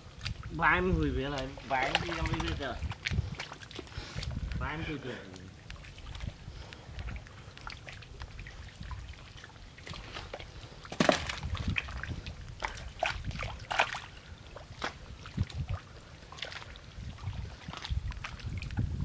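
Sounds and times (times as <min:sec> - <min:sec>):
feet wading through muddy water: 0:00.0 - 0:19.0.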